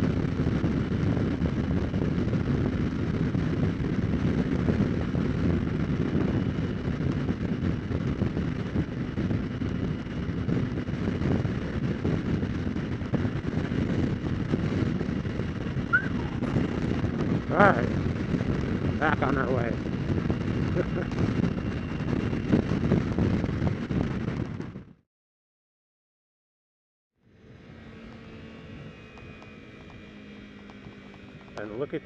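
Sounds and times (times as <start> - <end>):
motorcycle engine cruising: 0.0 - 24.9, 27.2 - 32.0
wind rushing over microphone: 0.0 - 25.0, 27.3 - 32.0.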